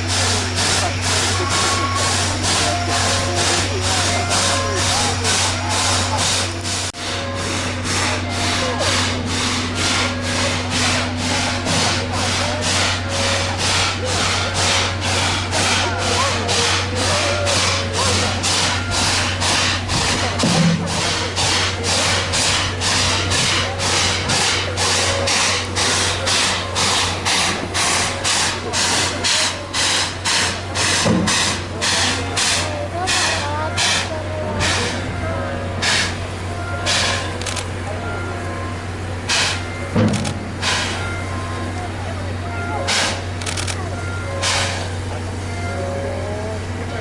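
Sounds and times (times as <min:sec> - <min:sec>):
steam locomotive chuffing: 0:00.0 - 0:47.0.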